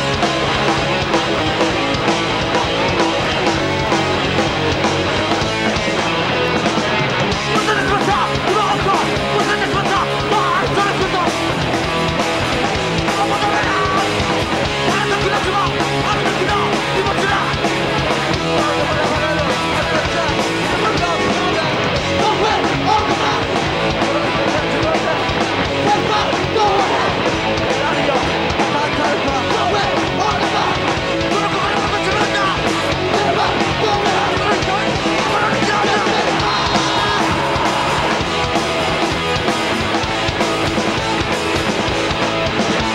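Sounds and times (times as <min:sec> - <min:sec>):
distorted electric guitars: 0:00.0 - 0:42.9
hardcore band playing live: 0:00.0 - 0:42.9.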